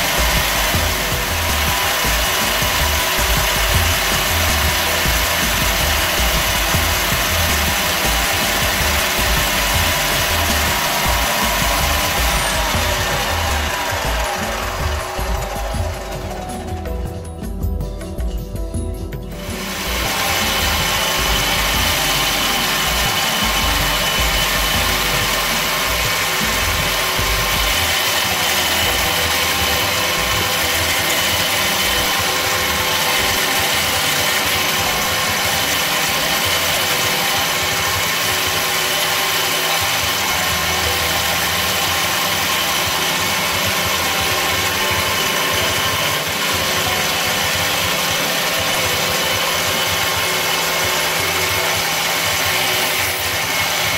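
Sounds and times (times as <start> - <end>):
metal lathe motor and gear whine: 0.0 - 53.9.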